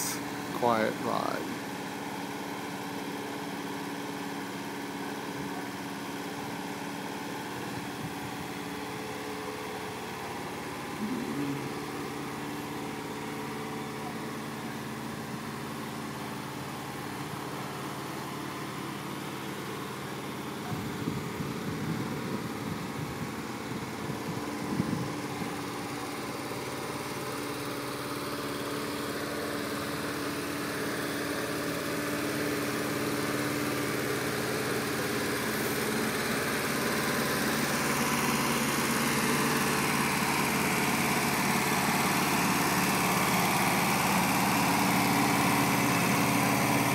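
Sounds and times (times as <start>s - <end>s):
van engine idling: 0.0s - 46.9s.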